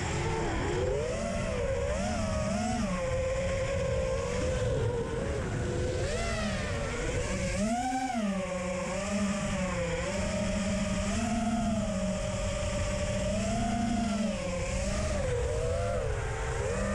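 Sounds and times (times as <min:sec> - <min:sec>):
quadcopter motors whining: 0:00.0 - 0:16.9.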